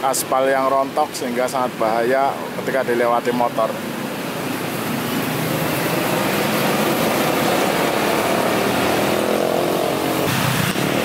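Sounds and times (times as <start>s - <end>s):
motorcycles and cars running: 0.0s - 11.0s.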